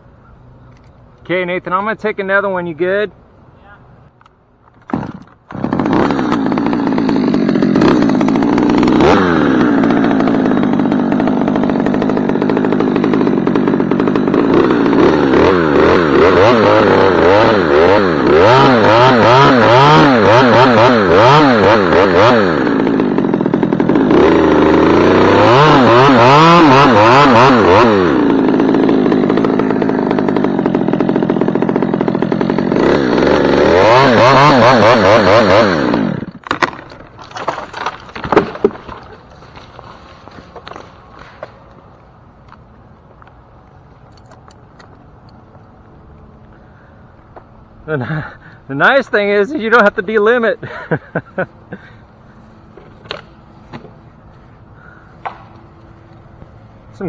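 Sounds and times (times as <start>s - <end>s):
chainsaw cutting wood: 4.8s - 42.6s, 48.8s - 57.0s.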